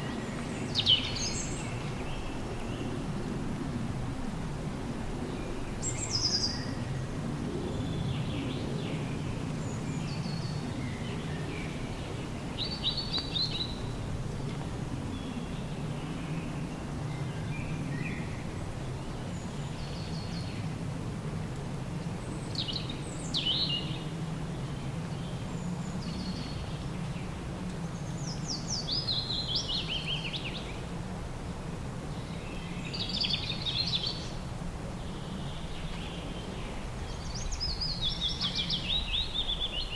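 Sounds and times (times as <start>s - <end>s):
songbirds singing: 0.0s - 3.4s, 5.1s - 20.7s, 22.2s - 31.0s, 32.0s - 39.9s.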